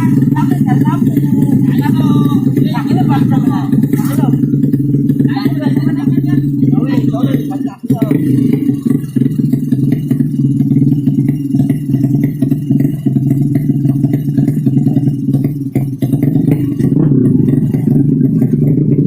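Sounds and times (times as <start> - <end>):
motorcycle engine running loudly: 0.0 - 19.0.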